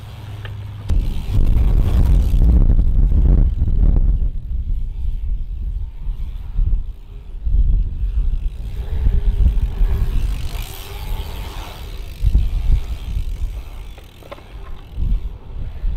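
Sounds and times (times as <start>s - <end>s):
bike tyres rolling on pavement: 0.0s - 15.9s
wind buffeting microphone: 0.9s - 15.9s.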